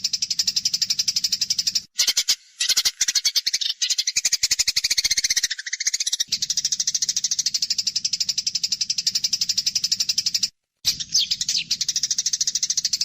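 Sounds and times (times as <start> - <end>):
sparrow rapid chatter: 0.0 - 13.0.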